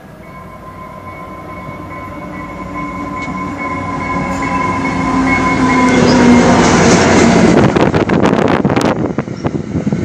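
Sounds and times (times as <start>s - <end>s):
high whine: 0.0s - 9.6s
diesel locomotive approaching: 0.0s - 10.0s
rush of passing train: 0.0s - 10.0s.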